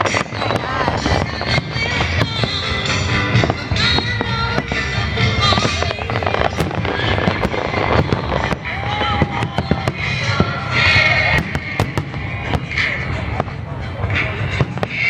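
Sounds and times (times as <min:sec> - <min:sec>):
fireworks popping and crackling: 0:00.0 - 0:15.0
music: 0:00.0 - 0:15.0.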